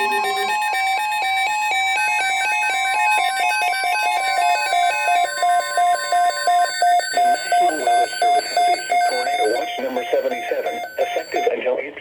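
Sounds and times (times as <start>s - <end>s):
steady high alarm tone: 0.0s - 11.6s
electronic beeping alarm: 0.0s - 11.7s.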